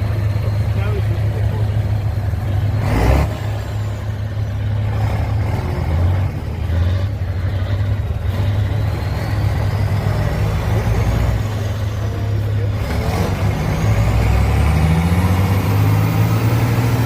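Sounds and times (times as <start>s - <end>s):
heavy truck engine rumbling: 0.0s - 17.0s.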